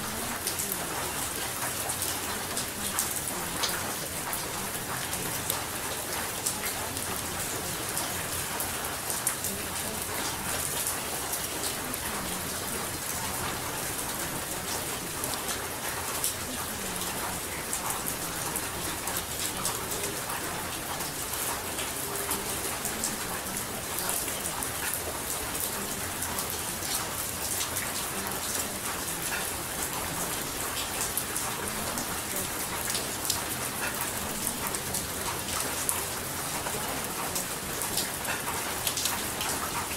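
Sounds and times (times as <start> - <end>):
raindrop ticks: 0.0 - 39.9
steady rain: 0.0 - 39.9.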